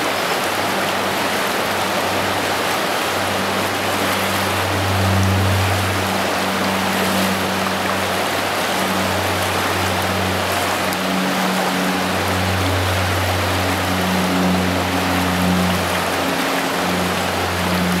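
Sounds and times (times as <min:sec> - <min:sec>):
rushing river water: 0:00.0 - 0:18.0
music with long low notes: 0:01.9 - 0:18.0.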